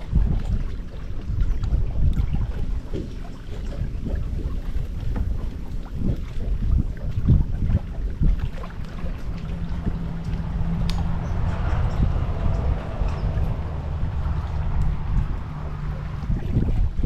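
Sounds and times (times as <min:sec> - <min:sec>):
steady motor hum: 0:00.0 - 0:17.0
wind buffeting microphone: 0:00.0 - 0:17.0.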